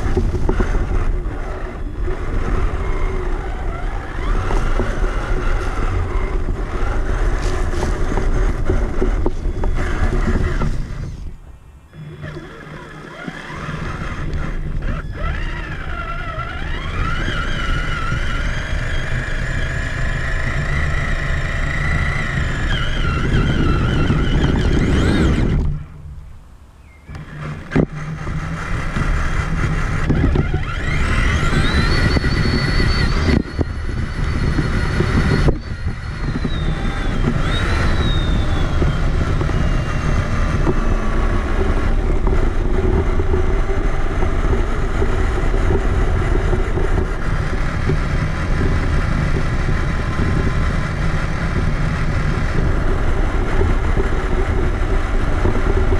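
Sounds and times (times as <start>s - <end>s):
electric motor and gear whine: 0.0s - 55.9s
tyres rumbling on rough ground: 0.0s - 55.9s.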